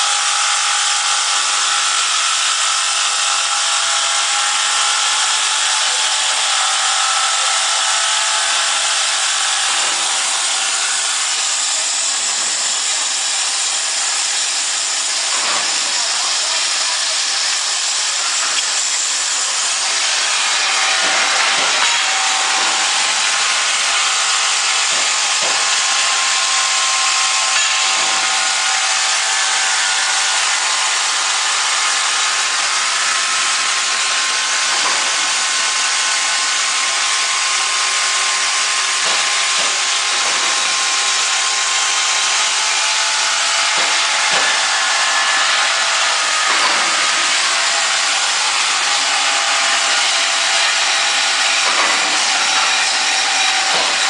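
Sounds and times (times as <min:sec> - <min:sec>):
band saw cutting: 0:00.0 - 0:54.0.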